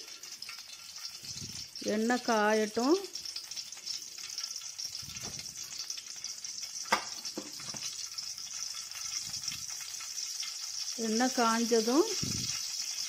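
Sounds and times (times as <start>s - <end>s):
oil sizzling in a pan: 0.0s - 13.0s.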